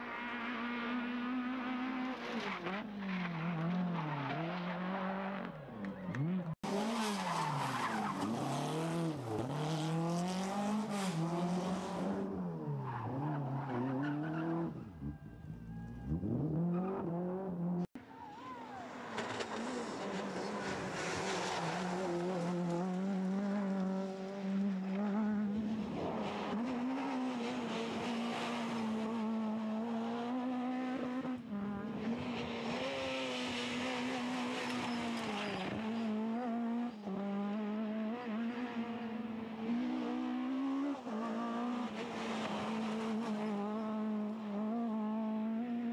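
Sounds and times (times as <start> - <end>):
rally car engine at high revs: 0.0 - 18.0, 18.9 - 45.9.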